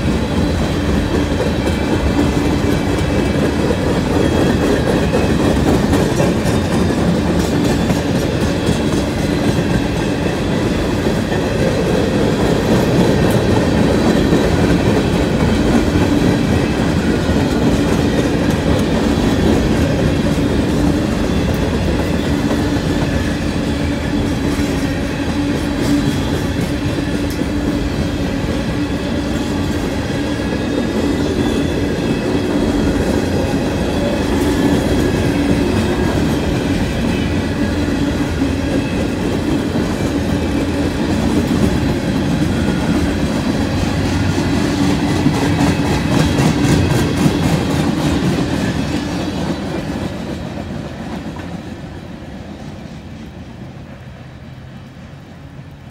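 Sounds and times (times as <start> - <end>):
steel wheels rumbling on rail: 0.0 - 55.9.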